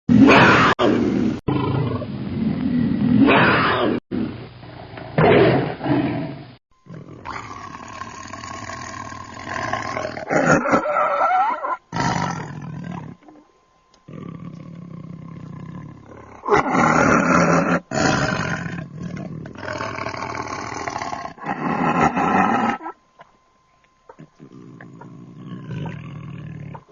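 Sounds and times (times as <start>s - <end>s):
tiger growling and roaring: 0.1s - 13.4s, 14.1s - 22.9s, 24.1s - 26.9s.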